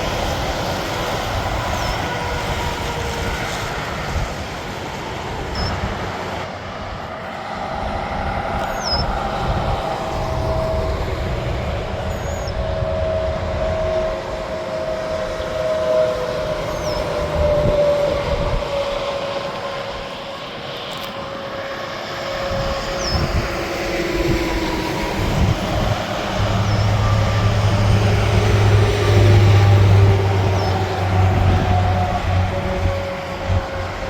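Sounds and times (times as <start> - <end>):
heavy traffic passing: 0.0 - 34.0.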